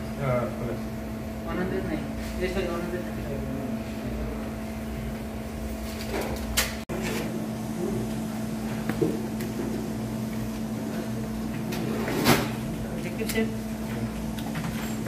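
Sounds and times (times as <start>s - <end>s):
mechanical hum with low rumble: 0.0s - 15.0s.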